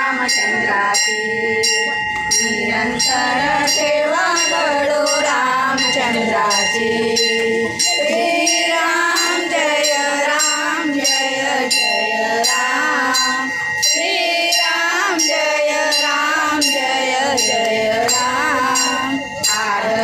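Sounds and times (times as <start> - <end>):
metallic bell strikes: 0.0 - 20.0
person singing devotional song: 0.0 - 20.0.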